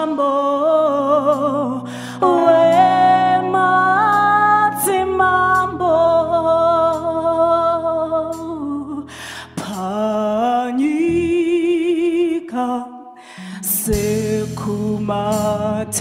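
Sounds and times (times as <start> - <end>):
woman singing gospel song: 0.0 - 16.0
low steady accompaniment: 0.6 - 11.9, 13.6 - 16.0.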